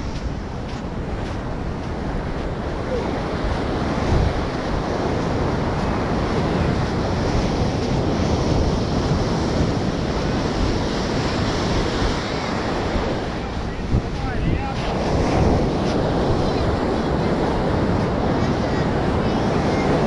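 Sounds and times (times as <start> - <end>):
ocean surf rushing: 0.0 - 20.0
wind buffeting microphone: 0.0 - 20.0.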